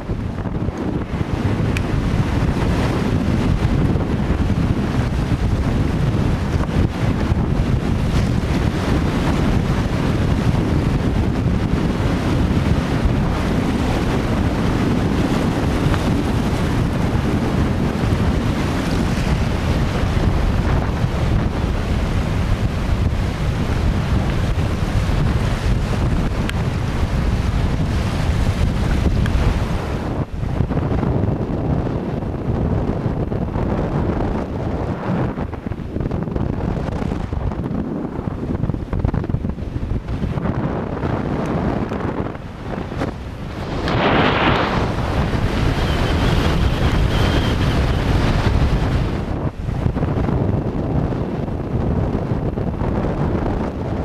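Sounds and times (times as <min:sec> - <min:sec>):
waves washing: 0:00.0 - 0:31.4, 0:32.8 - 0:50.3
wind buffeting microphone: 0:00.0 - 0:54.0.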